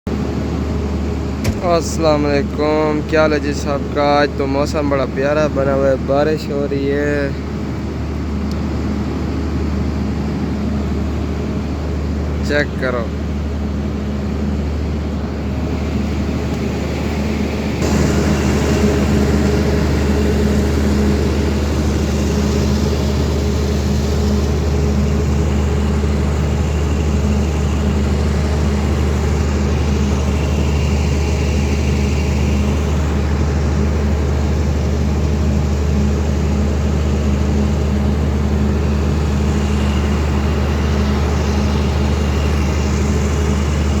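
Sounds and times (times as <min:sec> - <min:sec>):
low mechanical hum: 0:00.1 - 0:44.0.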